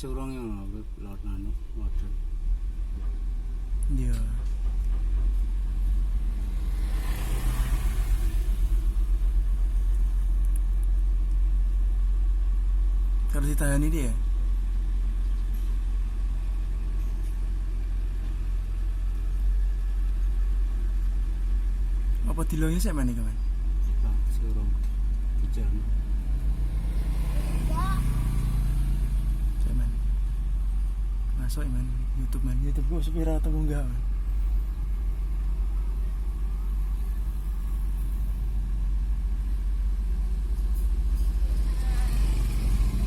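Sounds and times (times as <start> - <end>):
diesel engine running low: 0.0 - 43.0.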